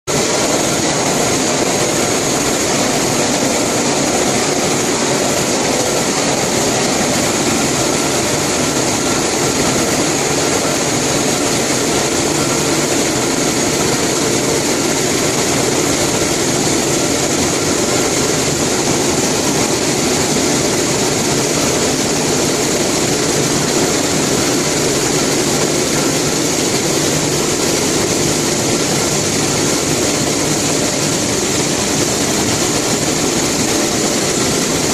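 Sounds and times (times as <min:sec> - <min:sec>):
machinery running with high whine: 0:00.1 - 0:34.9.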